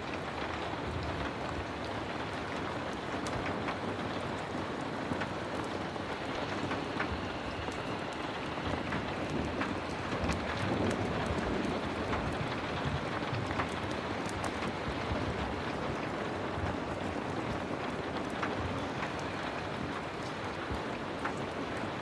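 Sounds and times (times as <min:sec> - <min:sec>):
heavy rain: 0:00.0 - 0:22.0
raindrop ticks: 0:00.0 - 0:22.0.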